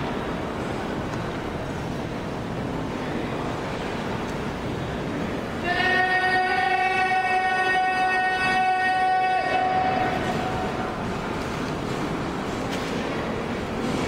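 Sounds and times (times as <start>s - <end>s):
murmur of large crowd: 0.0s - 14.0s.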